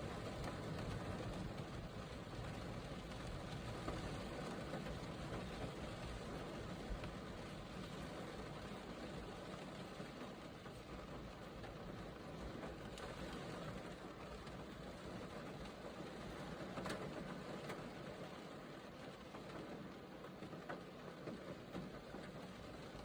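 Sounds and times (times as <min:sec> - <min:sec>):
rain pattering: 0:00.0 - 0:23.0.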